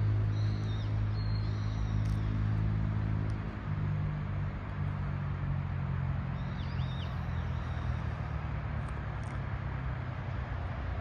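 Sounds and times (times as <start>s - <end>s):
distant city traffic hum: 0.0s - 11.0s.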